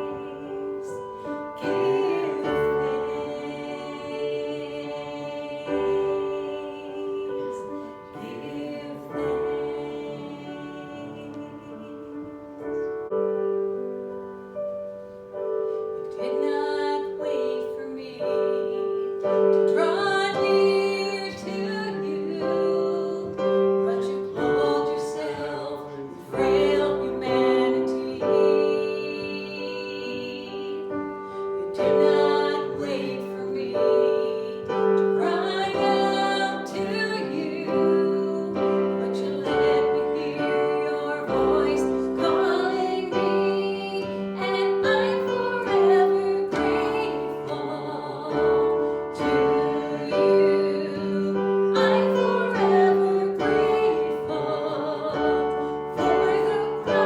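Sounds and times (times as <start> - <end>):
piano accompaniment: 0.0 - 57.0.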